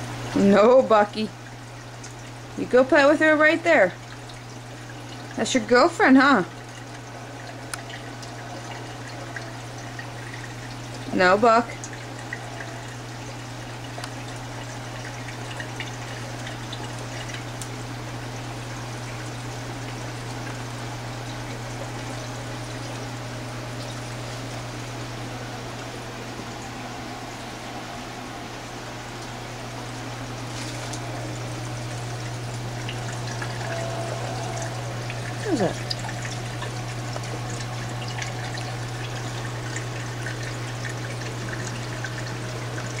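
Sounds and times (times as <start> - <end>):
low steady hum: 0.0 - 43.0
water trickling through aquarium filter: 0.0 - 43.0.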